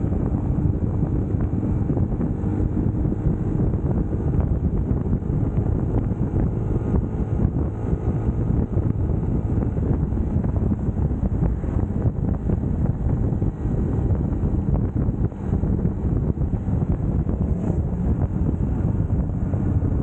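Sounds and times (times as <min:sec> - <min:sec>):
motorcycle engine rumble: 0:00.0 - 0:20.0
wind noise on microphone: 0:00.0 - 0:20.0.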